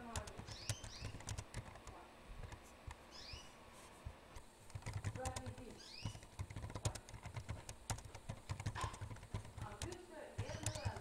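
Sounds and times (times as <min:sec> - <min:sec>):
computer keyboard typing: 0:00.0 - 0:02.6, 0:04.4 - 0:11.0.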